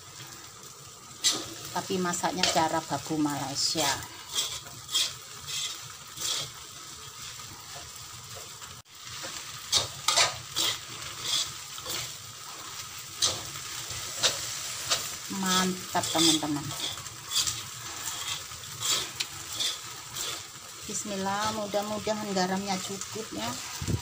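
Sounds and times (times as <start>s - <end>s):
noodles sizzling in a wok: 0.0s - 24.0s
metal spatula scraping a pan: 1.1s - 21.8s.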